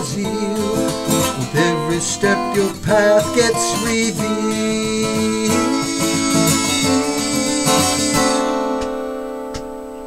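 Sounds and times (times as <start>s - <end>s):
acoustic guitar strummed: 0.0s - 10.0s.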